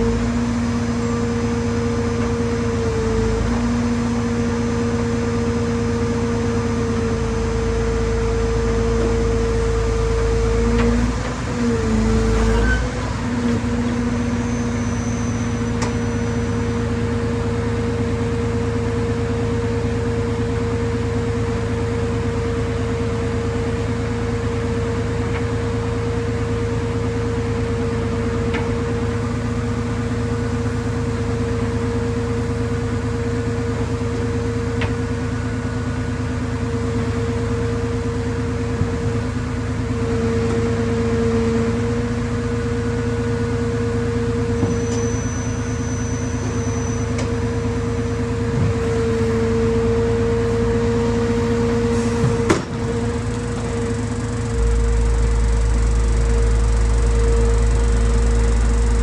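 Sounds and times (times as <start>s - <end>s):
machine droning hum: 0.0s - 59.0s.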